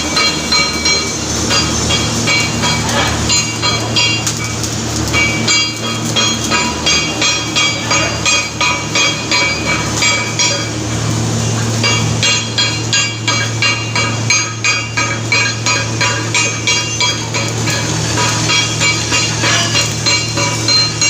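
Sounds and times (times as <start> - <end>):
hammer striking steel: 0.0 - 21.0.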